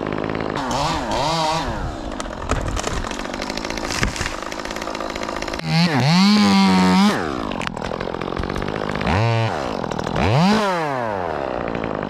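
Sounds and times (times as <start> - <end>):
chainsaw engine revving and idling: 0.0 - 12.0.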